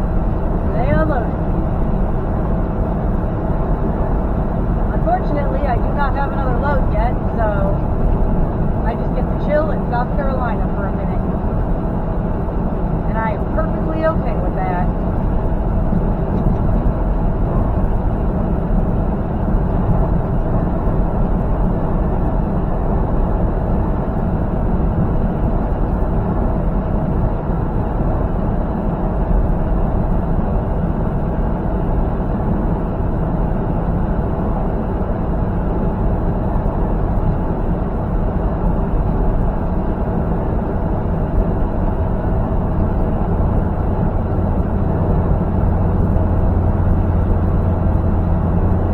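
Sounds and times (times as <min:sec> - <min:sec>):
road noise: 0:00.0 - 0:48.9
truck diesel engine drone: 0:00.0 - 0:48.9.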